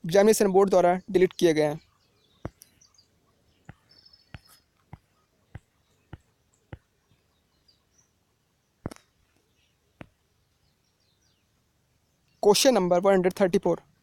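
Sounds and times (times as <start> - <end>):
faint bird chirps: 0.9 - 12.6.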